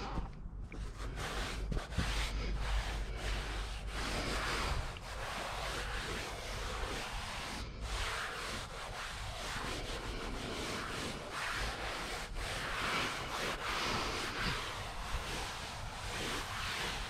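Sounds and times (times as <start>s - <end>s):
hands rubbing carpet: 0.0s - 17.0s.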